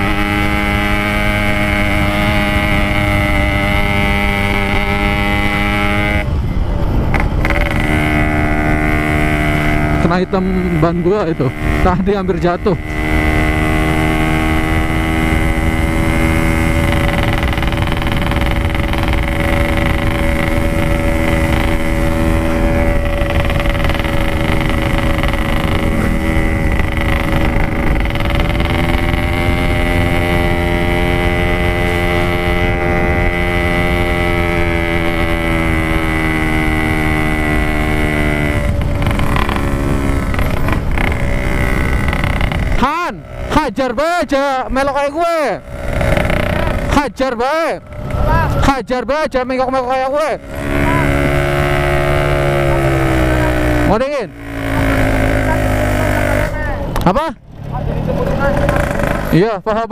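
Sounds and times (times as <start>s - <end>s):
two-stroke motorcycle engine running: 0.0s - 59.9s.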